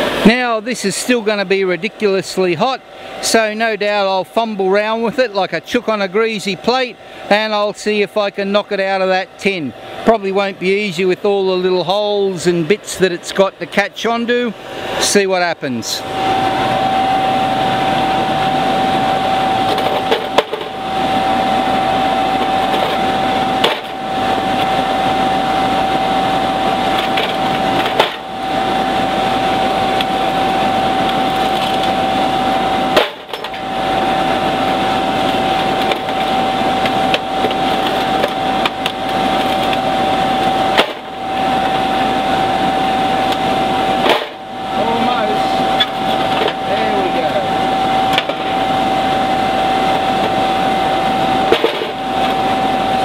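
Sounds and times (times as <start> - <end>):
air blower whining drone: 0.0 - 53.0.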